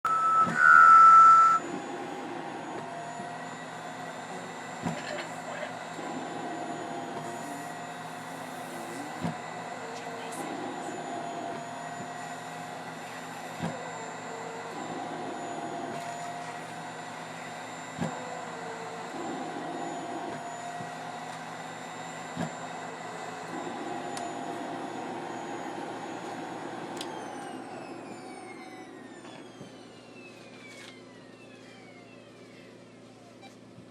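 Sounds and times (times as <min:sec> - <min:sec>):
machine blower hum: 0:00.0 - 0:33.2.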